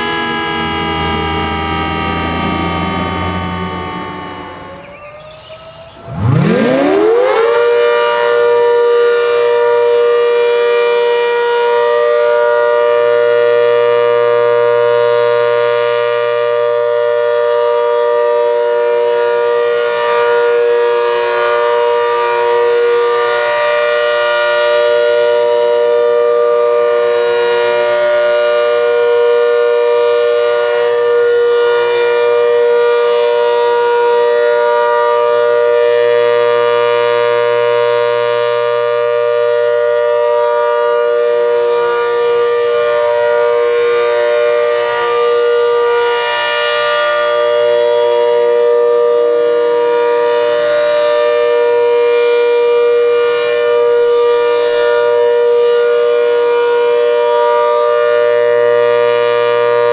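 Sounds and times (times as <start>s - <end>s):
outdoor warning siren: 0.0s - 59.9s.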